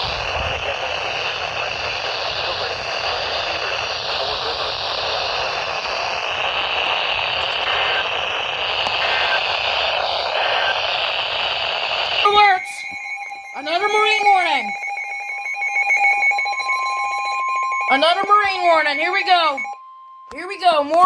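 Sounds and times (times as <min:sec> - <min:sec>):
radio static hiss: 0:00.0 - 0:14.8, 0:17.0 - 0:19.7.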